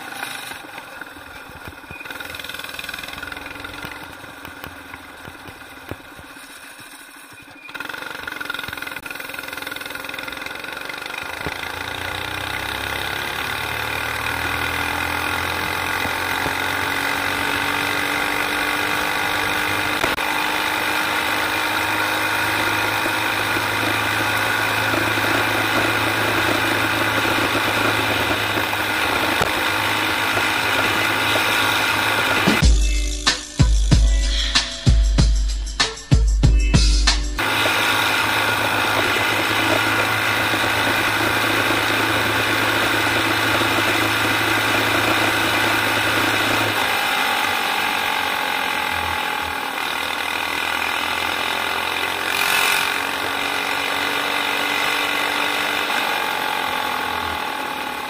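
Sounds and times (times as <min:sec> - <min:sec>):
go-kart engine revving: 0:00.0 - 0:32.7, 0:37.4 - 0:58.0.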